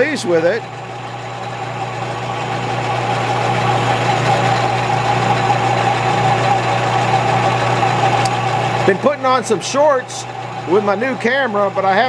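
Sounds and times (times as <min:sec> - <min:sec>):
lathe motor hum: 0:00.0 - 0:12.0.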